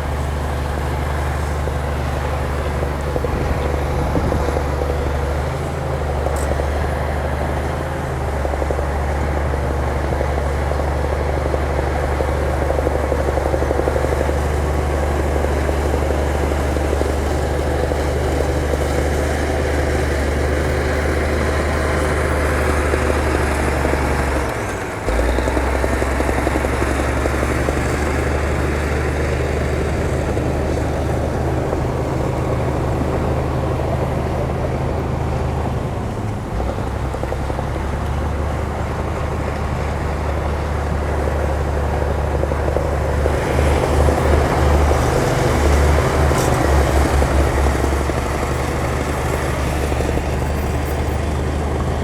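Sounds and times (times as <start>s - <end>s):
bulldozer diesel engine droning: 0.0s - 52.0s.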